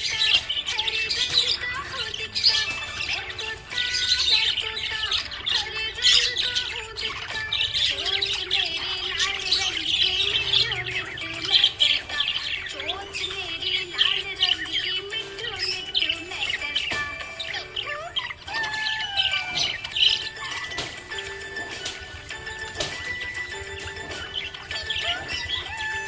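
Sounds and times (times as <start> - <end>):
background music: 0.0 - 26.0
parrots chattering and squawking: 0.0 - 26.0.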